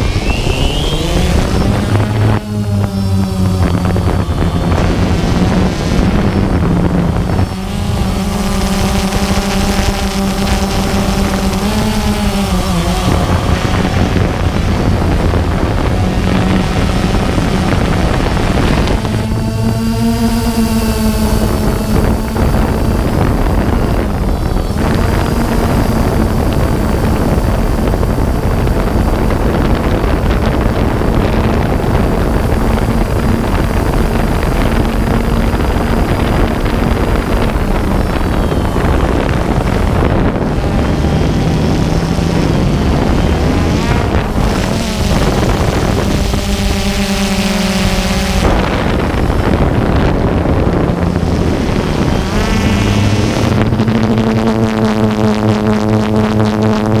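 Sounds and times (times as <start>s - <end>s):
drone propellers humming: 0.0s - 57.0s
wind noise on microphone: 0.0s - 57.0s.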